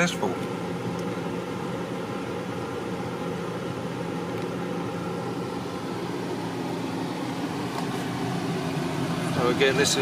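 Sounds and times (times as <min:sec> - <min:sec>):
air conditioning fan hiss: 0:00.0 - 0:10.0
car engine idling: 0:00.0 - 0:10.0.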